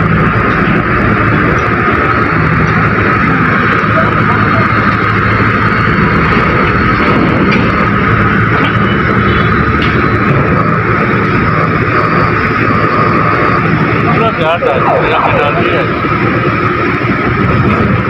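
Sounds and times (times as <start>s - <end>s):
constant high whine: 0.0s - 18.0s
large diesel engine running: 0.0s - 18.0s.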